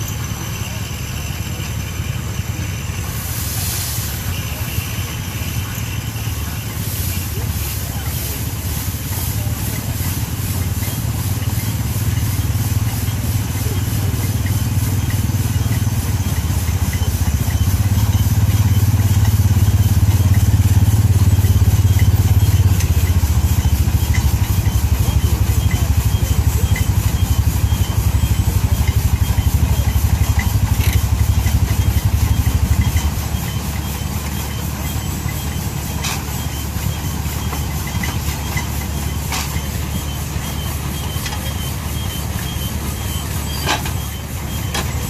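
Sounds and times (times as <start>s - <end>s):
steam engine low drone: 0.0s - 45.0s
threshing machine rattling: 0.0s - 45.0s.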